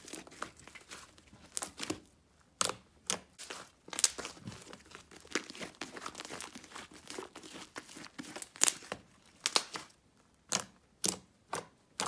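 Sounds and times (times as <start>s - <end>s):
slime crackling and popping: 0.0s - 2.0s, 2.6s - 12.0s.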